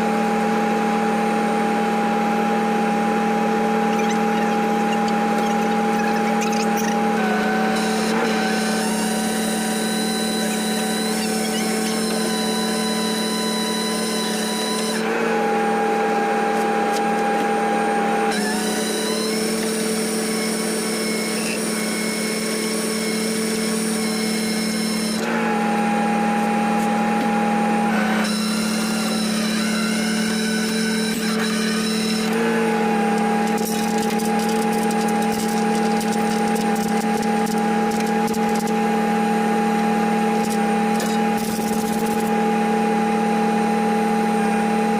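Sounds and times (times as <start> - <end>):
hydraulics whining and humming: 0.0 - 44.9.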